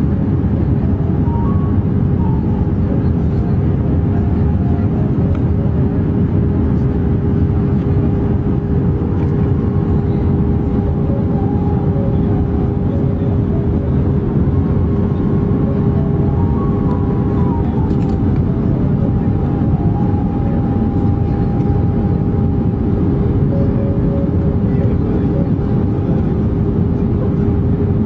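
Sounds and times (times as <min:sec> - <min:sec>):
airplane cabin engine rumble: 0:00.0 - 0:28.0
constant hum: 0:00.0 - 0:28.0.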